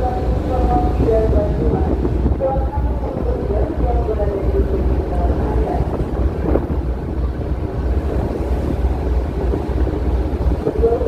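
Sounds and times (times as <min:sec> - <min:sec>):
rough sea: 0:00.0 - 0:11.0
wind buffeting microphone: 0:00.0 - 0:11.0.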